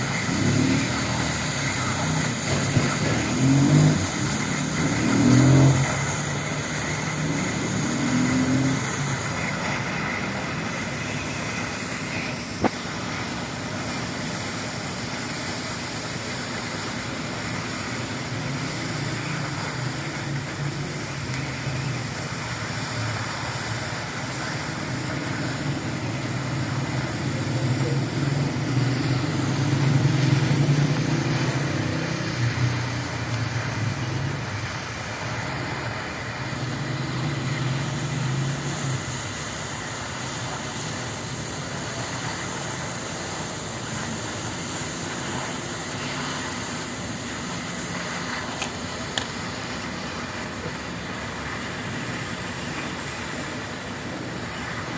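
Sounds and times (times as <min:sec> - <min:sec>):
continuous machine hiss: 0:00.0 - 0:54.9
low engine-like hum: 0:00.0 - 0:54.9.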